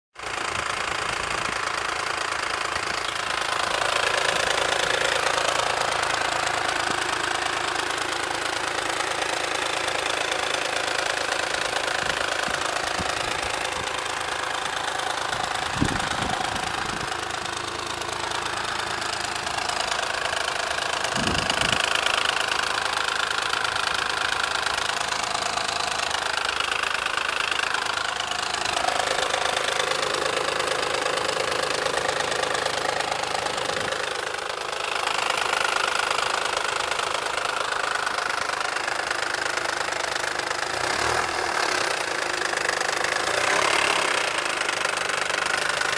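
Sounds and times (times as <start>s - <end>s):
car engine running harshly: 0.1s - 45.9s.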